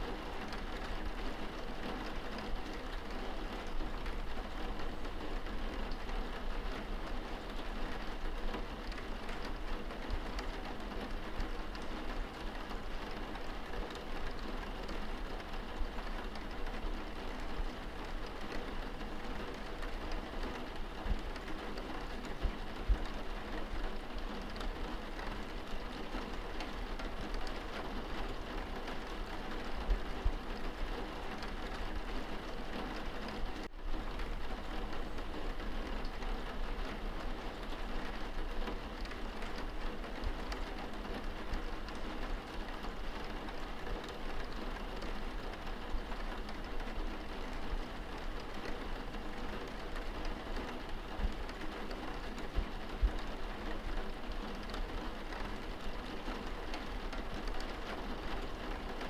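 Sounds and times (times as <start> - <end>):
rain pattering on window glass: 0.0 - 59.0.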